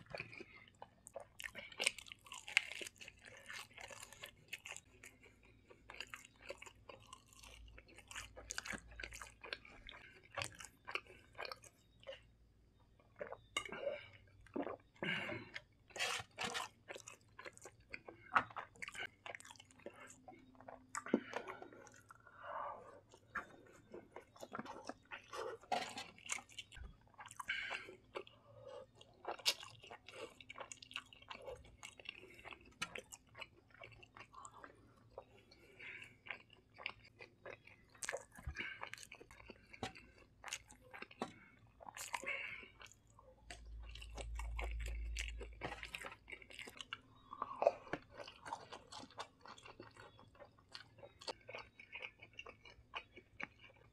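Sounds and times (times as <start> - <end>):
person chewing and slurping noodles: 0.0 - 53.9.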